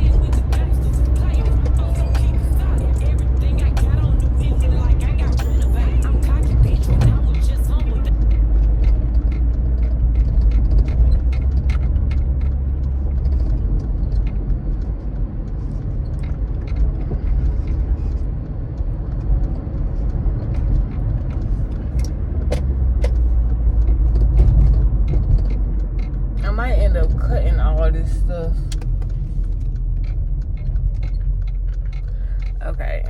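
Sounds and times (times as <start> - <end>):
car road noise rumble: 0.0 - 33.0.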